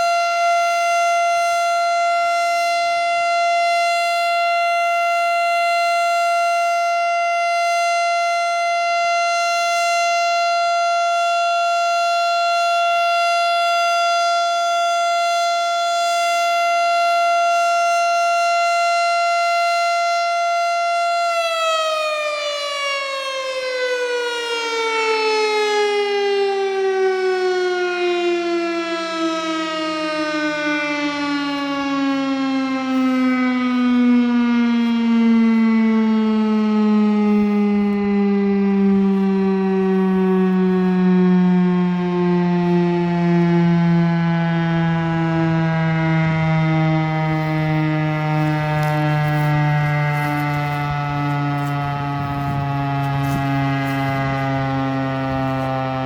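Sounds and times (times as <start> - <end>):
warning siren winding down: 0.0 - 56.0.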